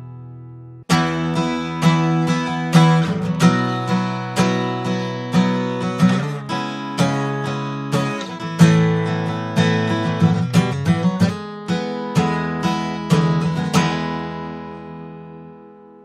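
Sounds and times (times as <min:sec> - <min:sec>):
acoustic guitar: 0:00.0 - 0:16.0.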